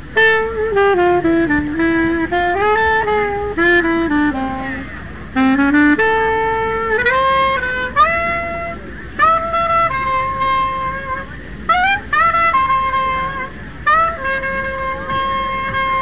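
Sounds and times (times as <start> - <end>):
saxophone melody: 0.0 - 16.0.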